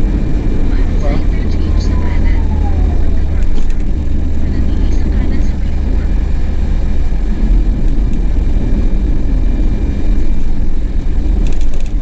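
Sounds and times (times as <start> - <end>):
vehicle engine and tyre rumble: 0.0 - 12.0.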